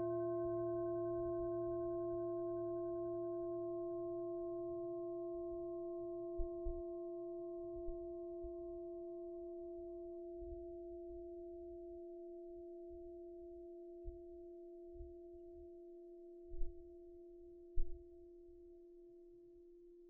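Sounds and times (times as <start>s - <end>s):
singing bowl ringing: 0.0s - 16.5s.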